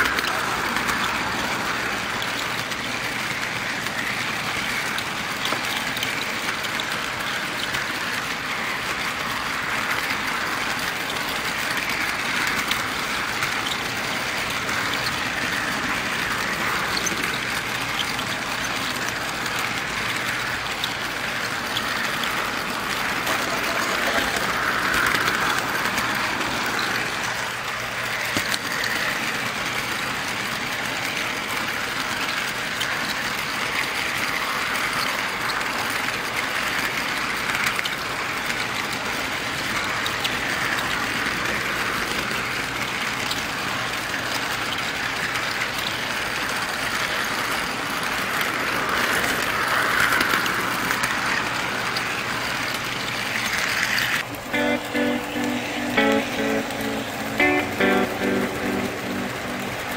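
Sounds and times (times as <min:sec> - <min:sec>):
model train wheels rolling on rails: 0:00.0 - 0:59.9.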